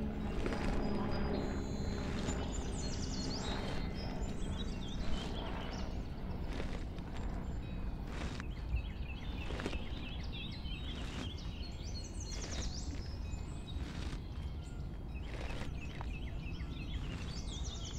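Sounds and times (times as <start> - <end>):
bird trill: 0.0 - 17.9
small birds chirping: 0.0 - 17.9
steady low rumble: 0.0 - 17.9
boots crunching through snow: 0.2 - 17.9.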